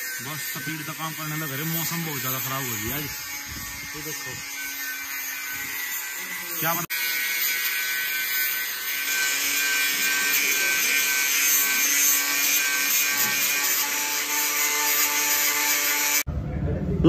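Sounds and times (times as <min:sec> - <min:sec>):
angle grinder grinding steel: 0:00.0 - 0:16.3.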